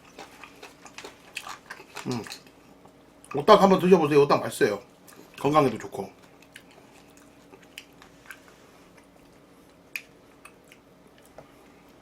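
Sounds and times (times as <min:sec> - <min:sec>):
person chewing food: 0:00.0 - 0:03.4, 0:05.0 - 0:05.5, 0:06.2 - 0:12.0.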